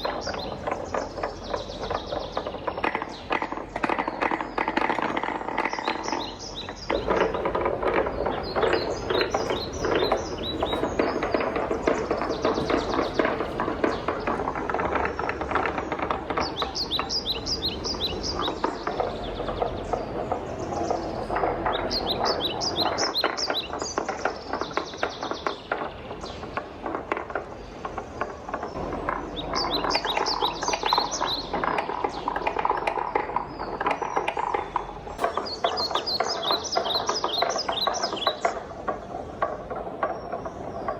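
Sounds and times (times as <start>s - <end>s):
high chirp-like ticks: 0.0s - 40.9s
wooden balls rolling down marble run: 0.0s - 40.9s.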